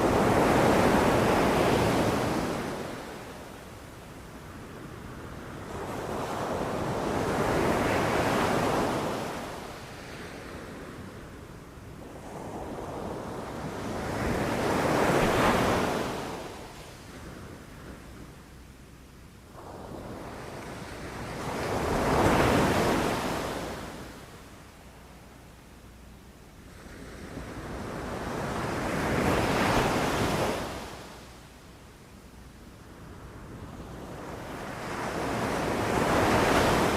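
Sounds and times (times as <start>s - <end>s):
sea waves breaking on shore: 0.0s - 11.4s, 12.0s - 18.4s, 19.6s - 25.3s, 26.6s - 31.6s, 32.9s - 36.9s.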